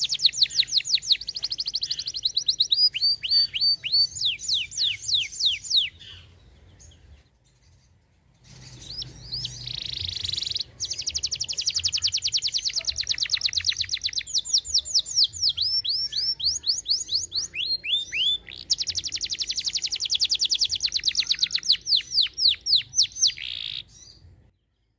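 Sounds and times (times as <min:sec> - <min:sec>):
canary singing: 0:00.0 - 0:24.2.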